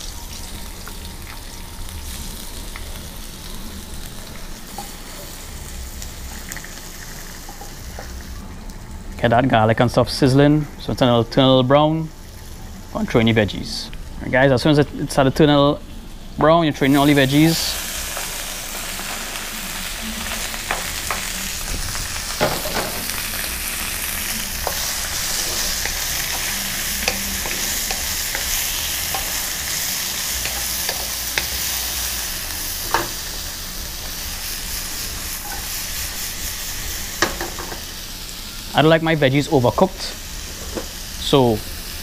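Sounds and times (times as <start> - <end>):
vegetables sizzling in a wok: 0.0 - 42.0.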